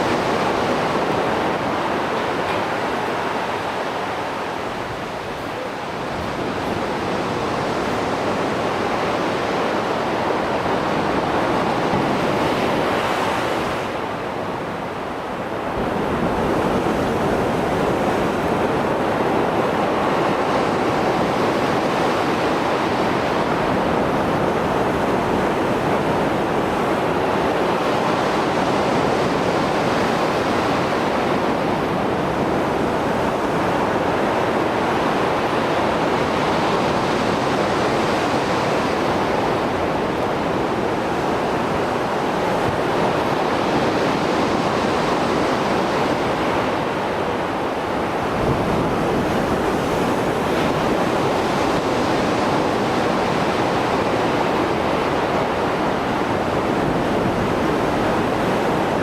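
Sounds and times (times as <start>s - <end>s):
heavy surf breaking waves: 0.0s - 59.0s.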